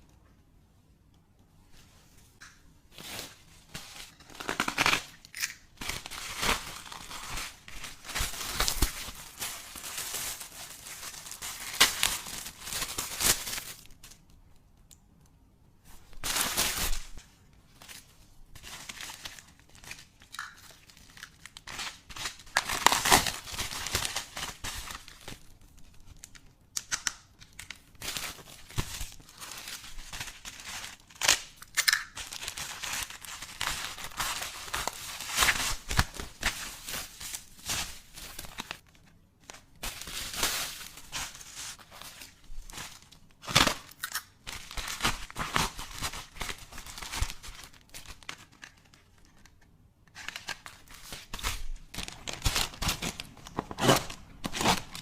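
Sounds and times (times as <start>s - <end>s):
packaging crinkling and tearing: 3.0s - 14.4s, 17.8s - 55.0s.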